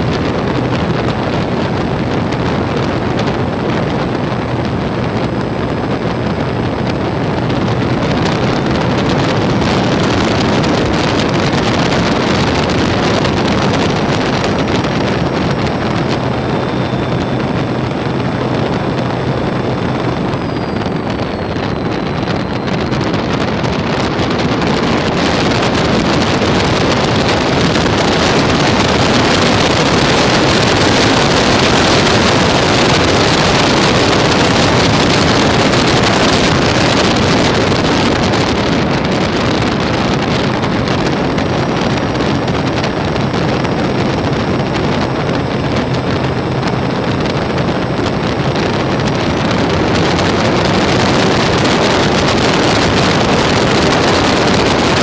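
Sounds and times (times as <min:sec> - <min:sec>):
model airplane motor and propeller: 0:00.0 - 0:55.0
wind rushing over microphone: 0:00.0 - 0:55.0.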